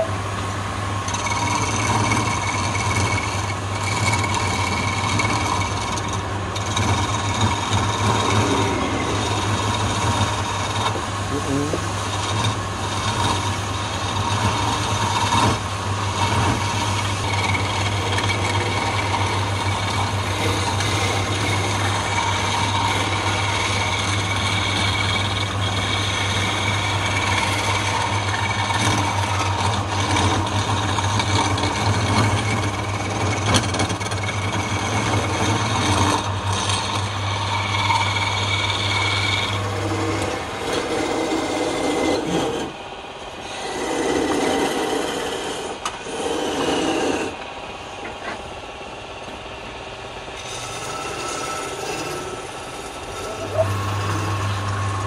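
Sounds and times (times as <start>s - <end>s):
lathe motor hum: 0.0s - 55.0s
scraper scraping spinning wood: 1.0s - 55.0s.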